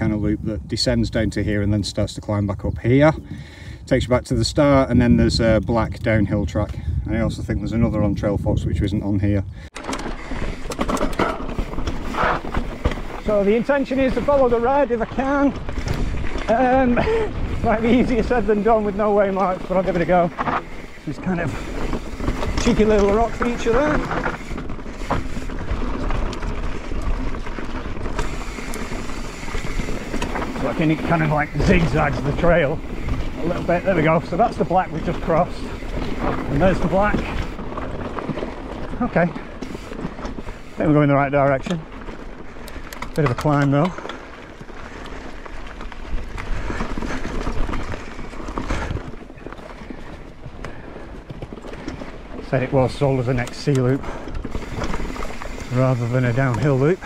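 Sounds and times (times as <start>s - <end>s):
tyres rumbling on dirt: 4.1s - 57.0s
bike clicks and knocks: 9.7s - 40.8s, 41.4s - 57.0s.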